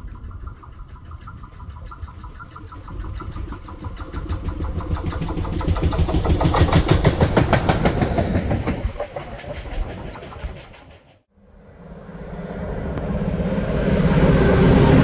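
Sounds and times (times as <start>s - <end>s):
train passing with clatter: 0.0s - 15.0s.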